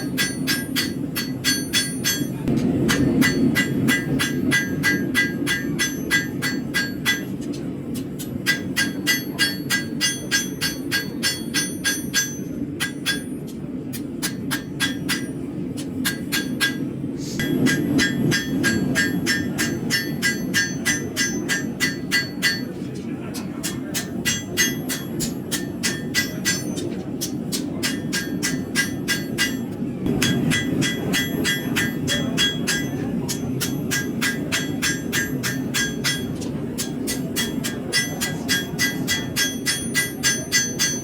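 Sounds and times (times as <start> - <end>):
hammer ringing on steel blade: 0.0 - 7.4, 8.2 - 15.4, 16.0 - 22.8, 23.6 - 41.0.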